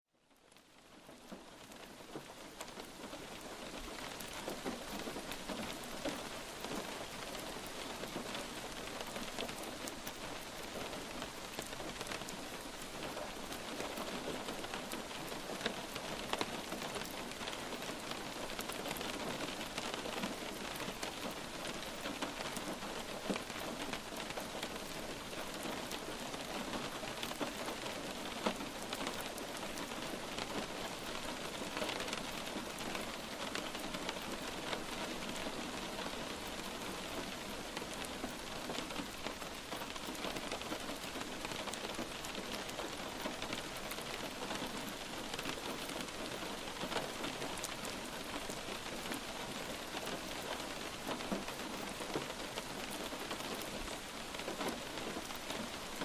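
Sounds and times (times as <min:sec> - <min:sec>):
light rain patter: 0:00.1 - 0:56.0.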